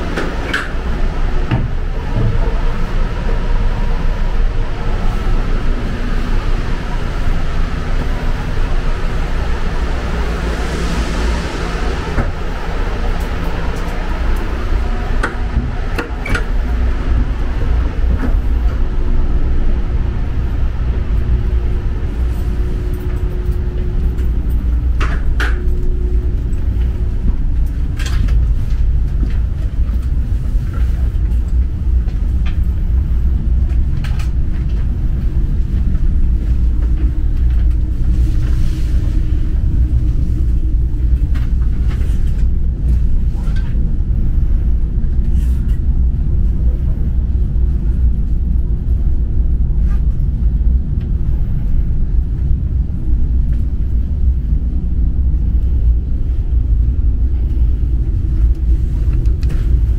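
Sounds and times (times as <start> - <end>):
low rumble of station ambience: 0.0 - 59.9.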